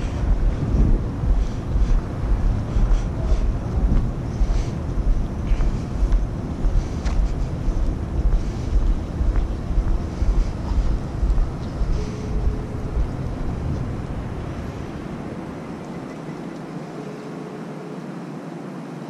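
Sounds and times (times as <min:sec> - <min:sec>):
wind buffeting microphone: 0:00.0 - 0:17.0
faint street noise: 0:00.0 - 0:19.0.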